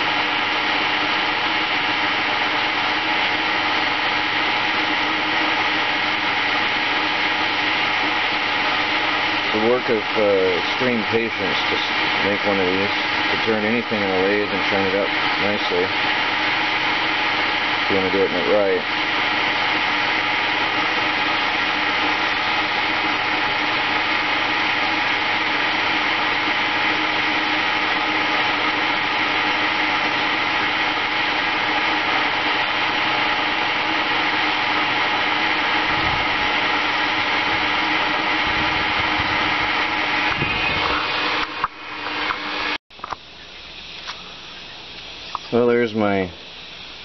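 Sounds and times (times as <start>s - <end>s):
lathe motor whining: 0.0s - 45.8s.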